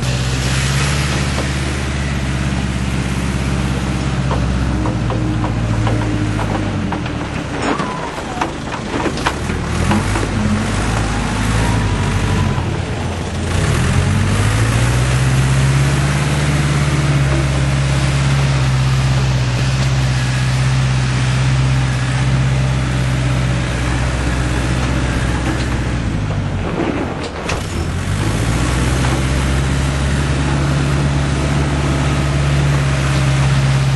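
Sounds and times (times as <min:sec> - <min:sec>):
diesel engine running and revving: 0:00.0 - 0:33.9
engine knocks: 0:00.0 - 0:33.9.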